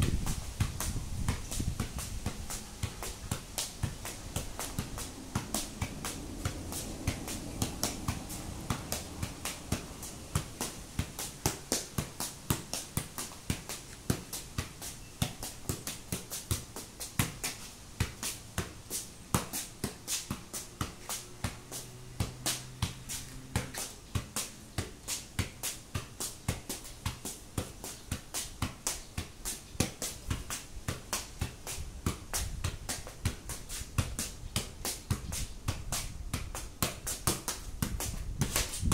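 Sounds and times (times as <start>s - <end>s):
football kicked while juggling: 0.0s - 38.9s.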